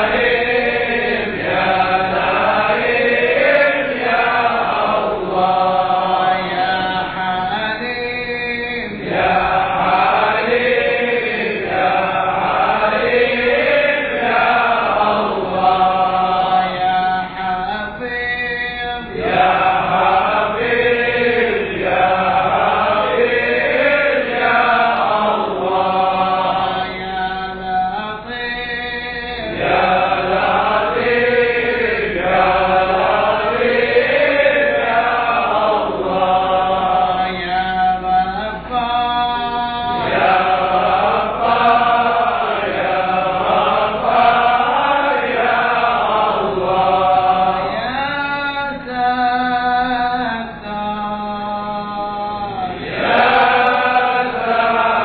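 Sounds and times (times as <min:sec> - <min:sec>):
group chanting in unison: 0:00.0 - 0:07.6, 0:08.4 - 0:17.5, 0:19.0 - 0:27.7, 0:29.4 - 0:38.7, 0:39.8 - 0:49.8, 0:51.7 - 0:55.0.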